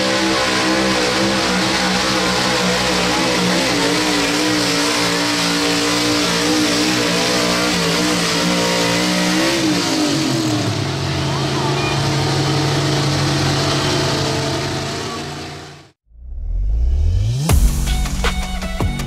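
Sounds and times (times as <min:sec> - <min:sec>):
pickup engine at high revs: 0:00.0 - 0:16.0.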